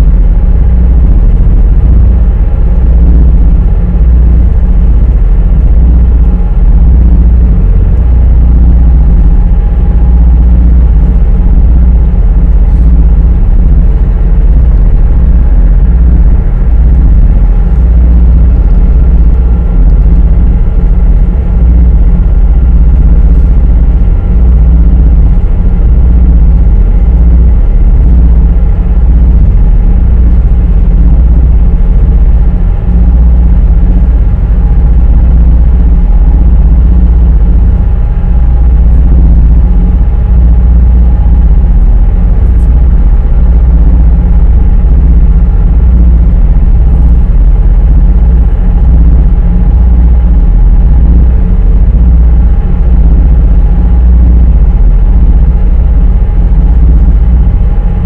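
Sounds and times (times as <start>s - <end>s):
faint engine hum: 0.0s - 58.0s
ferry engine deep rumble: 0.0s - 58.0s.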